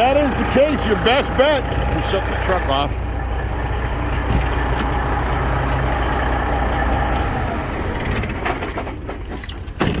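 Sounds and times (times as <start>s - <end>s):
engine running down: 0.0s - 9.3s
truck engine idling: 0.0s - 10.0s.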